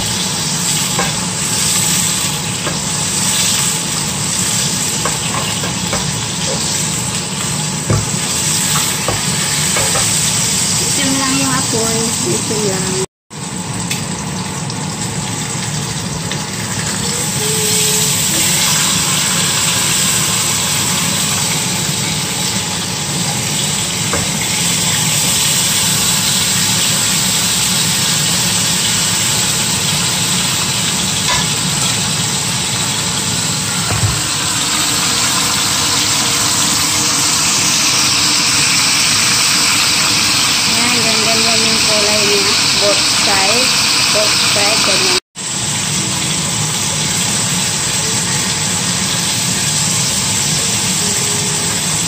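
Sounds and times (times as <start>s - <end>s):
chicken sizzling in frying pan: 0.0s - 52.0s.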